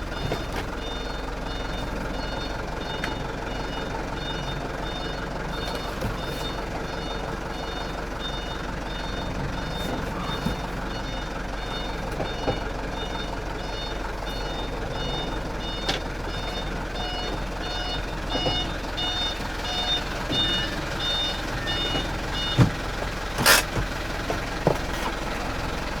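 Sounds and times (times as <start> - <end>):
truck engine running: 0.0 - 26.0
truck reversing alarm beeping: 0.0 - 26.0.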